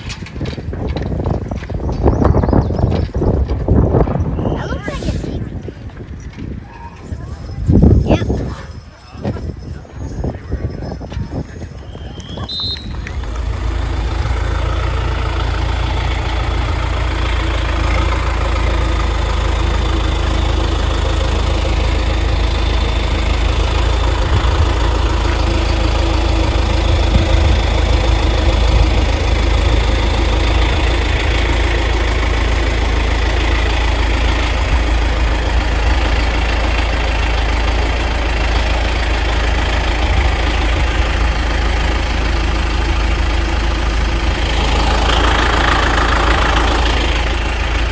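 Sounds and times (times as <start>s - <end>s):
large engine idling: 0.0s - 47.9s.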